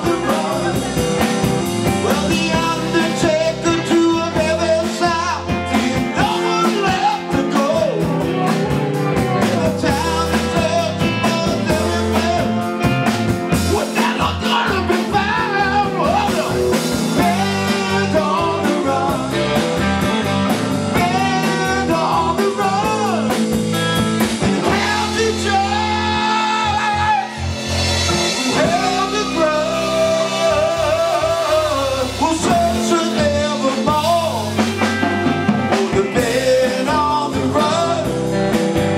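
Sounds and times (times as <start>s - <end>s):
man singing: 0.0s - 23.6s, 24.5s - 38.9s
drum kit: 0.0s - 38.9s
electric bass guitar: 0.0s - 38.9s
electric guitar: 0.0s - 38.9s.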